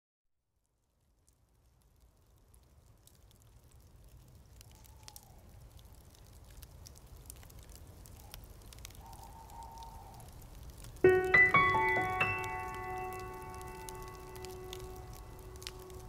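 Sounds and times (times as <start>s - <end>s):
light crackles: 0.5s - 16.0s.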